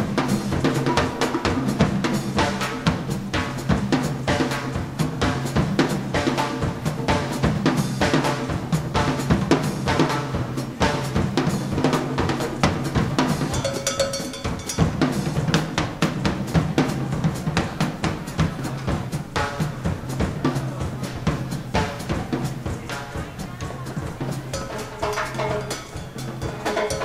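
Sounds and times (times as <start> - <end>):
drums and percussion beat: 0.0 - 27.0
live latin dance band: 0.0 - 27.0.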